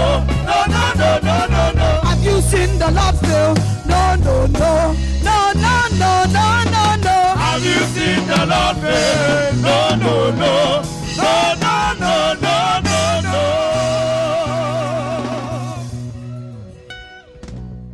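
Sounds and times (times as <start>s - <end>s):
people singing gospel: 0.0s - 5.0s, 5.7s - 16.1s
band with drums and bass: 0.0s - 17.9s.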